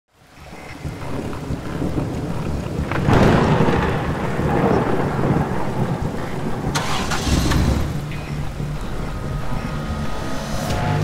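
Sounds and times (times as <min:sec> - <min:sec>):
steady rain: 0:00.1 - 0:11.0
thunder rolling: 0:00.2 - 0:11.0.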